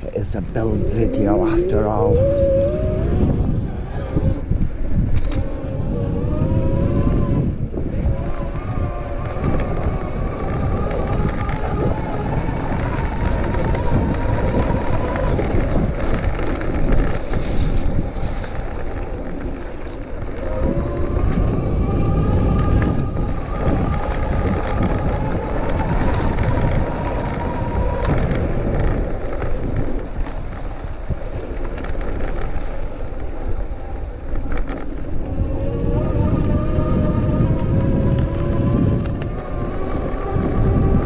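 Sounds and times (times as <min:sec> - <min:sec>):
electric hub motor whining: 0:00.0 - 0:41.0
tyres rumbling on dirt: 0:00.0 - 0:41.0
wind on microphone: 0:00.0 - 0:41.0.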